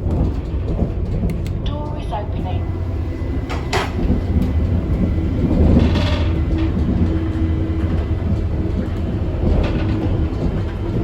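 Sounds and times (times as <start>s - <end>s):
train engine rumbling: 0.0s - 11.0s.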